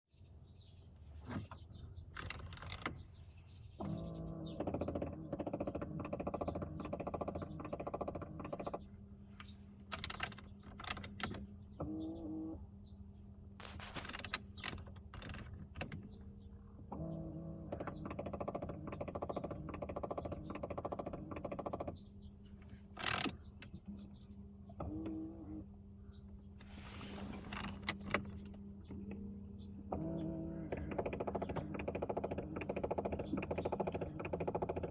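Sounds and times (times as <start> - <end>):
low steady hum: 0.2 - 34.9.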